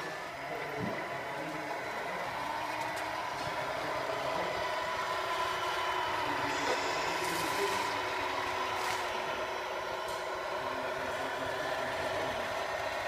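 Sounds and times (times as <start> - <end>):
electronic truck engine sound: 0.0 - 13.0
high whine: 0.0 - 13.0.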